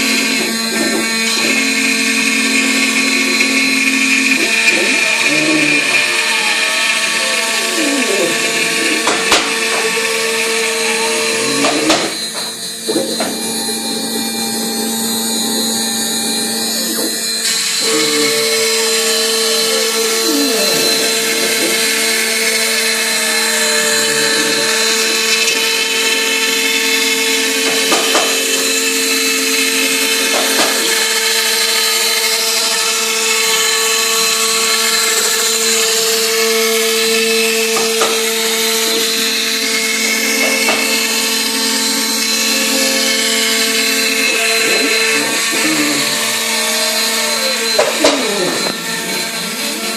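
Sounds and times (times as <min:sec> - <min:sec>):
drive motors whining: 0:00.0 - 0:49.9
router spindle whine: 0:00.0 - 0:49.9.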